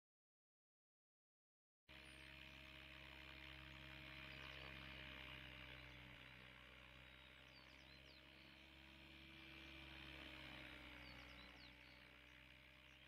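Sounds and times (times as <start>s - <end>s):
distant rc helicopter humming: 1.9s - 13.0s.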